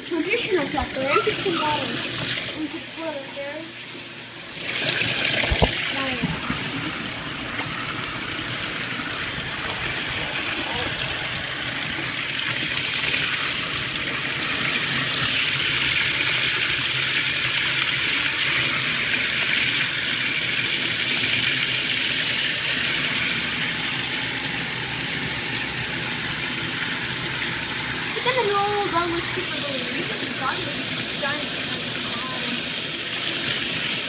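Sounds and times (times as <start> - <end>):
toilet flushing: 0.0 - 34.0.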